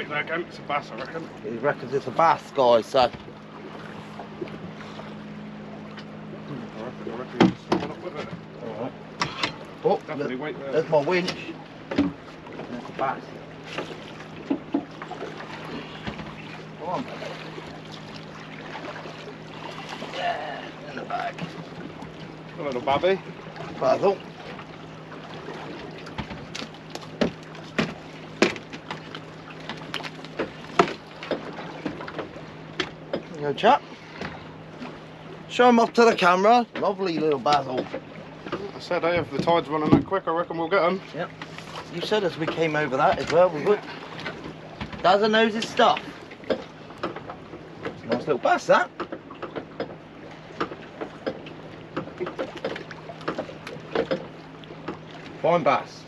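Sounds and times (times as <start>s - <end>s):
knocks and clatter on boat deck: 0.0s - 56.0s
steady low hum: 0.0s - 56.0s.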